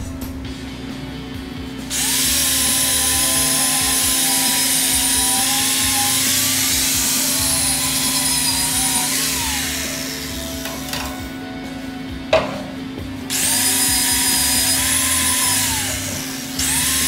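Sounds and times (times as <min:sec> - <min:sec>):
angle grinder grinding steel: 0:01.9 - 0:11.5, 0:12.3 - 0:17.0.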